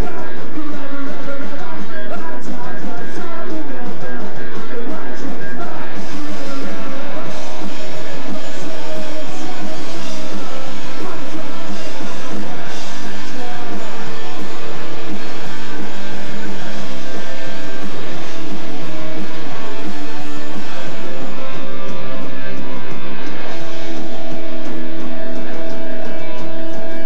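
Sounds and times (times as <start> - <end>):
punk rock band playing live: 0.0 - 27.0.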